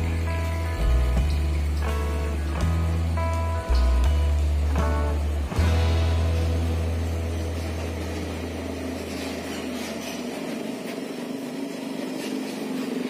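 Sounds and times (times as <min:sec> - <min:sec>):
traffic noise: 0:00.0 - 0:13.0
truck diesel engine passing: 0:00.0 - 0:13.0.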